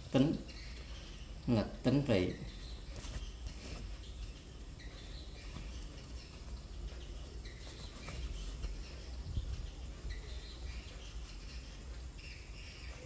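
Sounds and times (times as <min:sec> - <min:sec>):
faint high chirps: 0:00.1 - 0:13.0.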